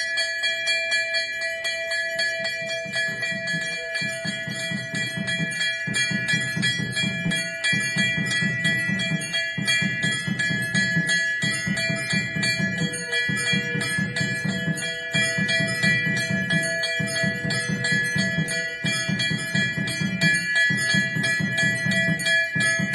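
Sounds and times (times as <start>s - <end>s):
brass bells clanging: 0.0s - 22.9s.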